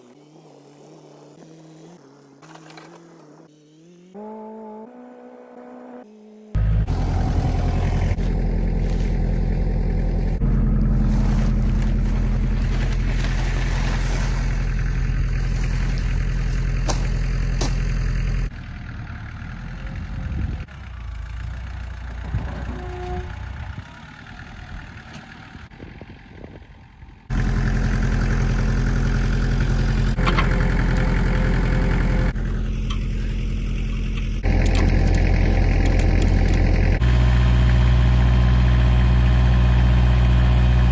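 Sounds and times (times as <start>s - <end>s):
vehicle engine running: 6.3s - 40.9s.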